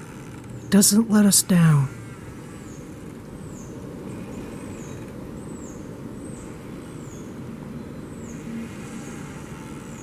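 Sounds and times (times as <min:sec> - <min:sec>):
low outdoor rumble: 0:00.0 - 0:10.0
small bird chirping: 0:00.0 - 0:10.0.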